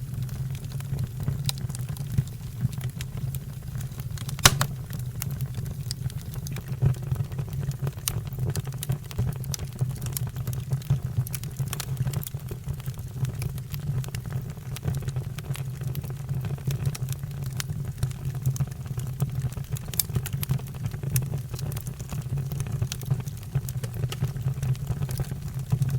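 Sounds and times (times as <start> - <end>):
fire crackling: 0.0 - 15.0, 18.9 - 25.9.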